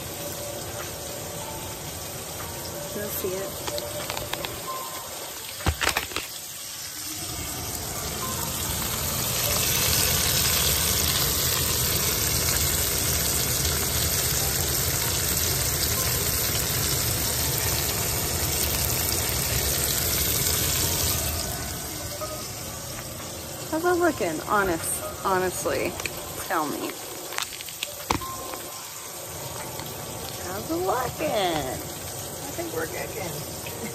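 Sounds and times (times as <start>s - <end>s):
steak sizzling in frying pan: 0.0s - 33.9s.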